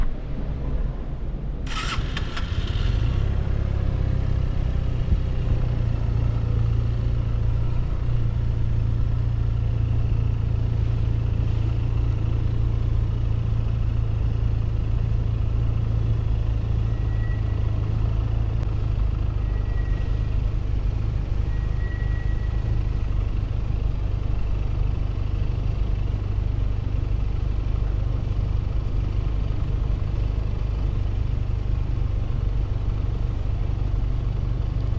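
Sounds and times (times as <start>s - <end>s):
motorcycle engine starting and idling: 1.6s - 34.9s.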